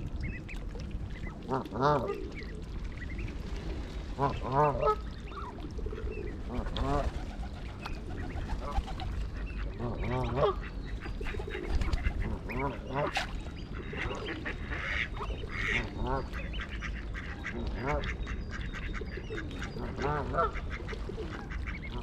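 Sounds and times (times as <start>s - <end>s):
low steady rumble: 0.0s - 22.0s
ducks quacking: 1.2s - 3.3s, 4.1s - 22.0s.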